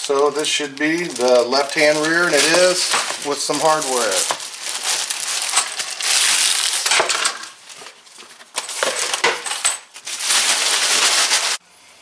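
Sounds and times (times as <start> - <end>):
plastic packets crinkling: 0.0 - 11.6
small metal parts clinking: 0.0 - 11.6.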